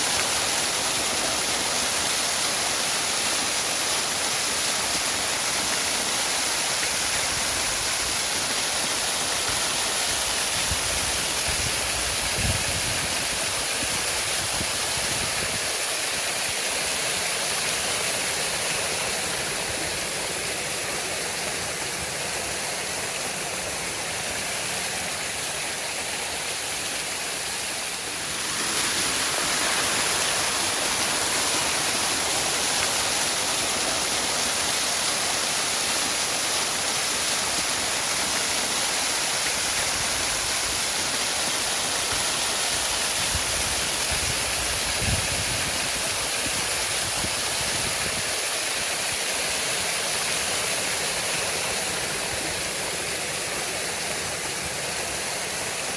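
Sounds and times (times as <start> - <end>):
waterfall rushing and splashing: 0.0 - 55.9.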